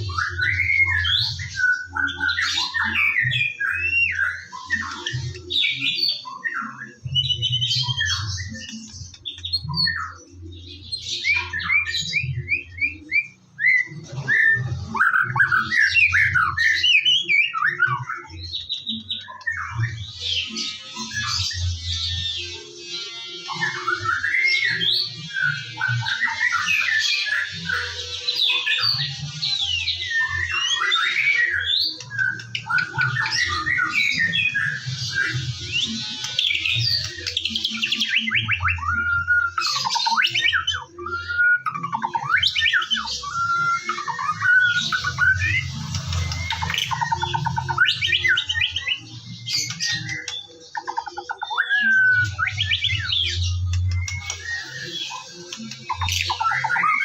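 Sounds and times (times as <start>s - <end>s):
songbird singing whistles and trills: 0.0s - 57.0s.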